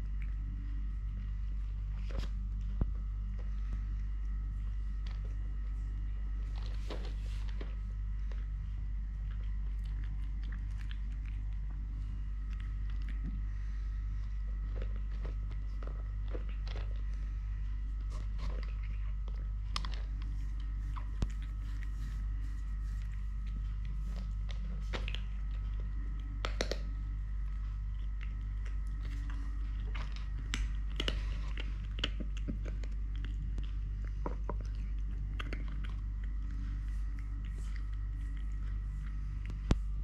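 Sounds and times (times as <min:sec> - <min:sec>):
kitten crunching and chewing: 0:00.0 - 0:40.0
steady low hum: 0:00.0 - 0:40.0.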